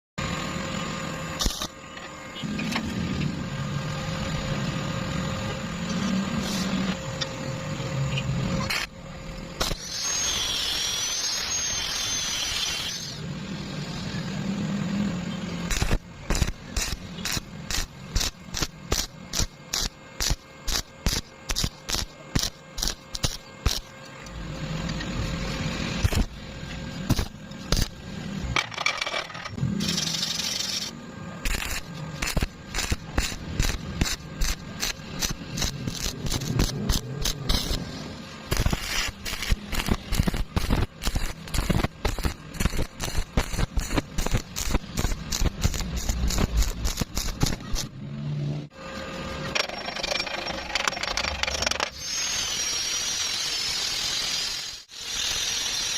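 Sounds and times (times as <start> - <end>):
loud hiss with high whine: 0.2 - 28.6, 29.6 - 47.9, 51.9 - 55.9
welding crackle with low hum: 0.2 - 55.9.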